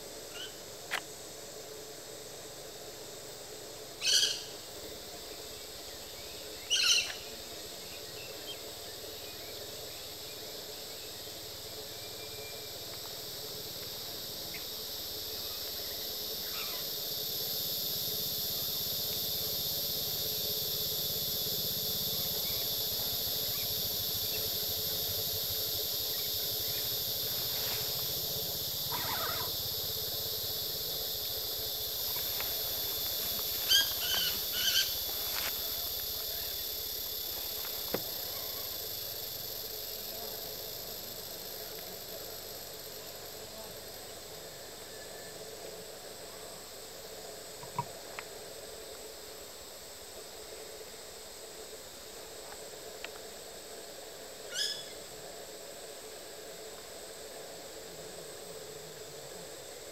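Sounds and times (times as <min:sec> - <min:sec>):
steady high hiss: 0:00.0 - 0:59.9.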